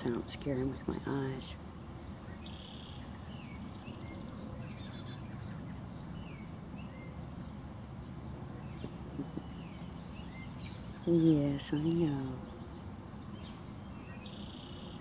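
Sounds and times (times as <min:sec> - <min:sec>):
low background noise: 0:00.0 - 0:15.0
bird chirps: 0:00.5 - 0:15.0.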